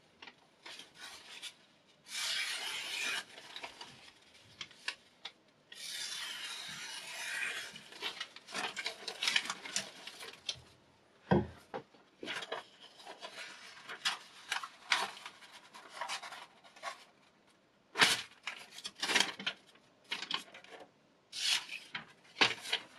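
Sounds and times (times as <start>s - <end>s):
paper rustling and crinkling: 0.2s - 10.7s, 12.2s - 22.9s.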